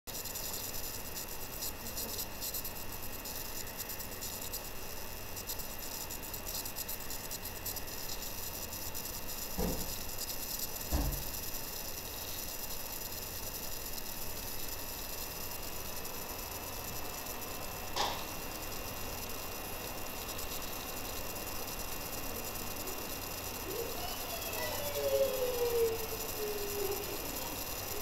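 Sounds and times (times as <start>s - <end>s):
background hiss: 0.1s - 28.0s
low electrical hum: 0.1s - 28.0s
thin high whine: 0.1s - 28.0s.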